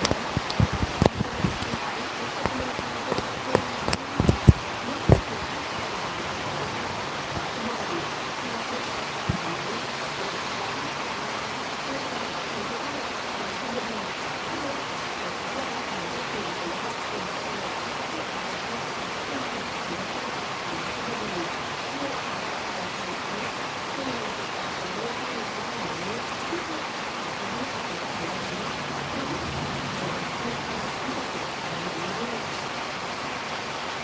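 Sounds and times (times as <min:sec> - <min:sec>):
storm wind and rain: 0:00.0 - 0:34.0.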